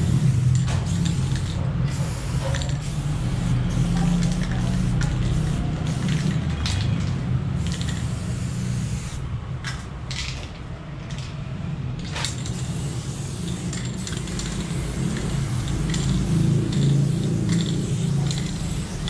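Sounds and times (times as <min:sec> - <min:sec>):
spray paint can hissing: 0:00.0 - 0:09.3, 0:12.0 - 0:19.0.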